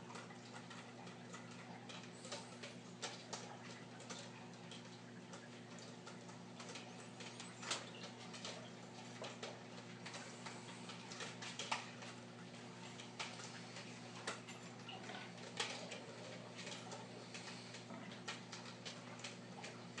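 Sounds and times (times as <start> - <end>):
aquarium equipment hum: 0.0 - 20.0
small clicks and ticks: 0.0 - 20.0.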